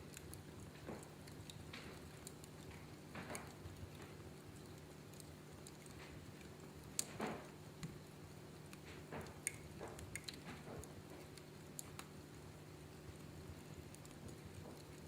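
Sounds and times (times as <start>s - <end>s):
wood fire popping and snapping: 0.0s - 15.0s.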